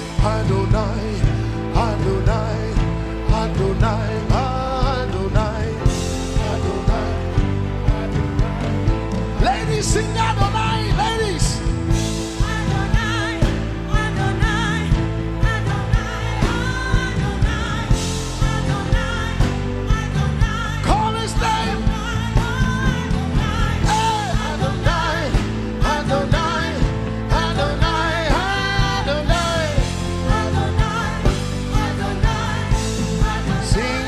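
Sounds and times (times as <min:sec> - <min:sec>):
band playing: 0:00.0 - 0:34.0
many voices singing: 0:00.0 - 0:34.0
steady drum beat: 0:00.0 - 0:34.0.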